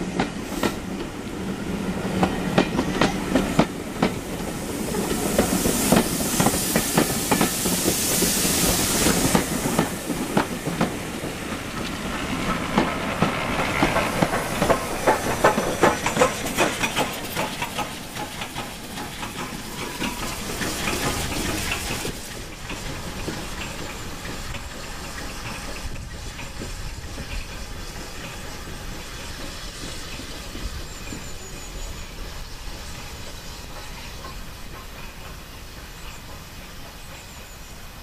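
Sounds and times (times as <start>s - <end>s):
distant steam train approaching: 0.0s - 38.0s
steam hissing: 0.0s - 38.0s
train wheels clattering: 0.0s - 38.0s.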